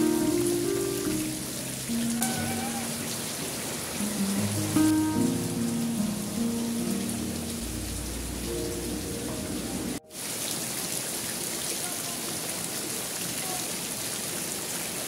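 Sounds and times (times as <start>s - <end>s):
heavy rain on concrete: 0.0s - 15.0s.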